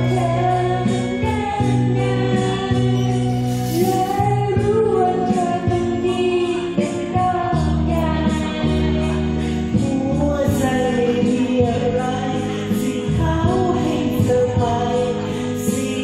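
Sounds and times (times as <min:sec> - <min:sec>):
amplified backing music: 0:00.0 - 0:16.0
people singing into microphones: 0:00.0 - 0:16.0.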